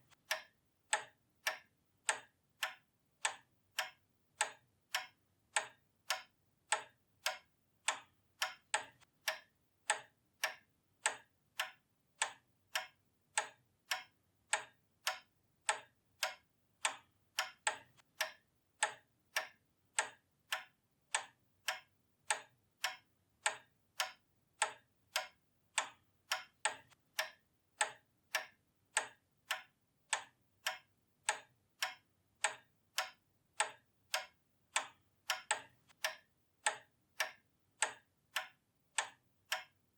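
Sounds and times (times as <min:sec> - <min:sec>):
pendulum clock ticking: 0:00.0 - 0:39.9.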